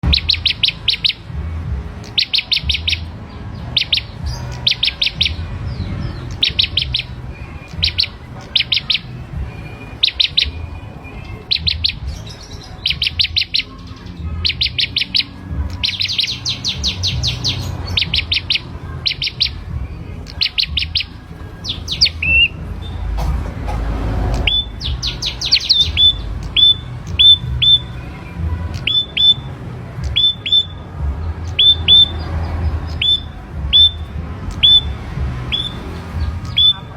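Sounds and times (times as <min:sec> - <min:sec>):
songbird trilling: 0:00.0 - 0:01.4, 0:02.0 - 0:23.1, 0:24.3 - 0:36.9
bird call notes: 0:00.0 - 0:23.2, 0:23.8 - 0:36.9.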